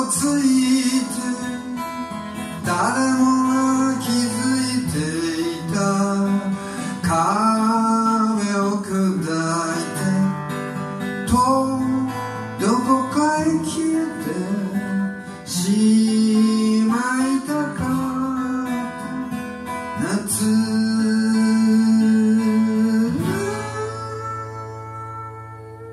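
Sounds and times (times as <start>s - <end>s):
man singing: 0.0s - 25.9s
strummed acoustic guitar: 0.0s - 25.9s.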